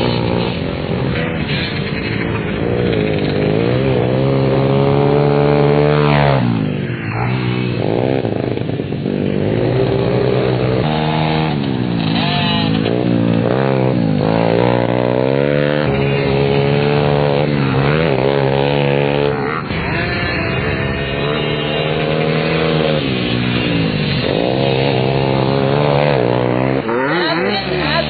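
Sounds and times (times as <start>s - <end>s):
small motorbike engine revving: 0.0s - 28.0s.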